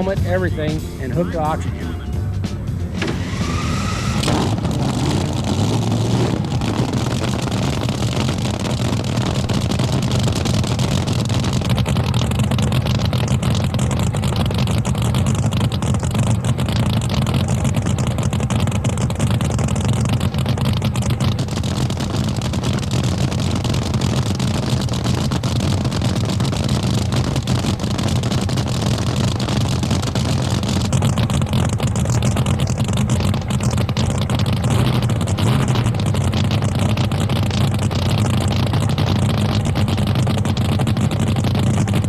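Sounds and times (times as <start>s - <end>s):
boat engine low rumble: 0.0s - 42.0s.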